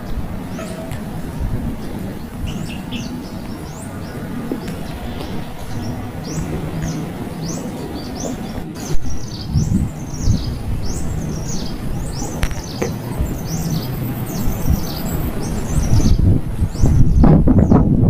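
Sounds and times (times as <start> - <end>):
small birds chirping: 0.0 - 17.9
low background rumble: 0.0 - 18.0.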